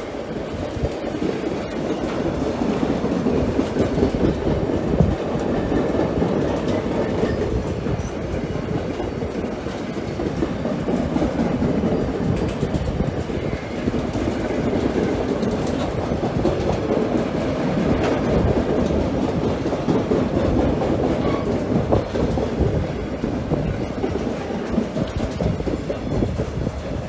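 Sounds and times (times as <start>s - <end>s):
freight wagon wheels rumbling: 0.0s - 27.0s
clicks over rail joints: 0.4s - 27.0s.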